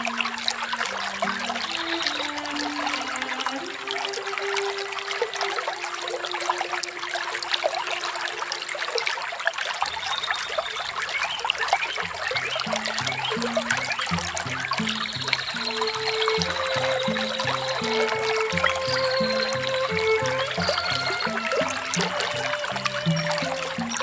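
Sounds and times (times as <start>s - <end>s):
soft background music: 0.0s - 8.8s, 12.4s - 24.0s
small waterfall splashing: 0.0s - 24.0s.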